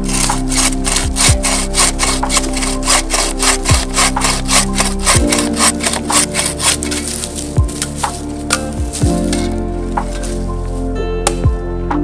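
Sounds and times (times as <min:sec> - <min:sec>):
hand saw cutting log: 0:00.0 - 0:10.5.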